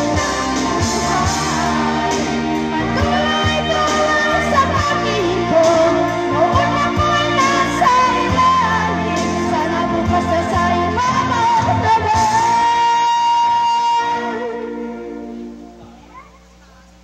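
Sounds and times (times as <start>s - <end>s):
woman singing karaoke: 0.0s - 15.3s
karaoke backing track: 0.0s - 17.0s.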